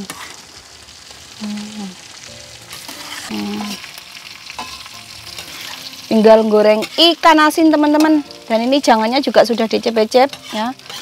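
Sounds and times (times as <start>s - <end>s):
stirring in a pan: 0.0s - 1.4s, 2.2s - 11.0s
food sizzling in hot oil: 0.0s - 11.0s.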